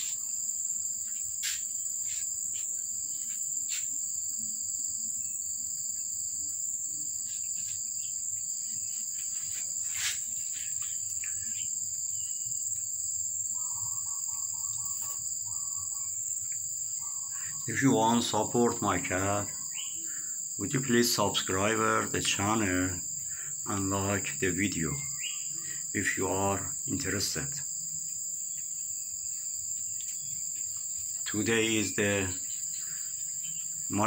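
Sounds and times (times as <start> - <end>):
high-pitched insect chirring: 0.0 - 34.0.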